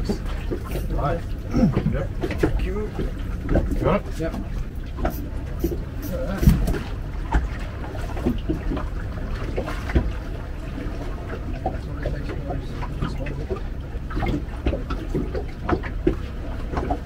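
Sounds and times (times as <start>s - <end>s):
water around a boat: 0.0s - 17.0s
wind: 0.0s - 17.0s.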